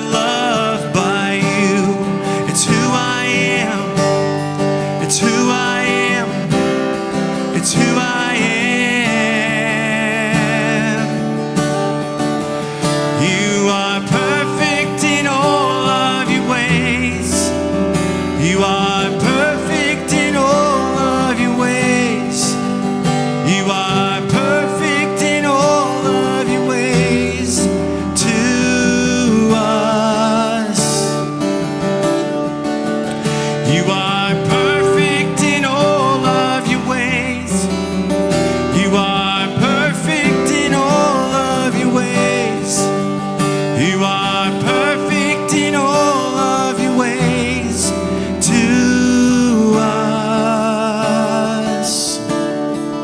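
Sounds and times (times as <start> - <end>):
held sung lines: 0.0 - 53.0
strummed acoustic guitar: 0.0 - 53.0.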